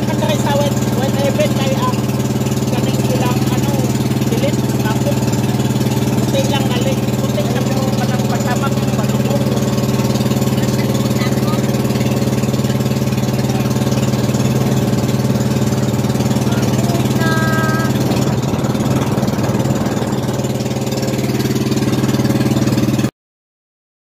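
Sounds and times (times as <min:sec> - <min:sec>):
motorboat engine running: 0:00.0 - 0:23.1
water rushing along hull: 0:00.0 - 0:23.1.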